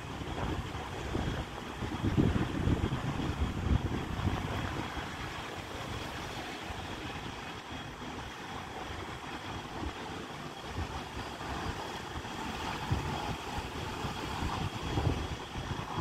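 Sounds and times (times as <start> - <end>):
electric train low hum: 0.0 - 16.0
wind buffeting microphone: 0.0 - 16.0.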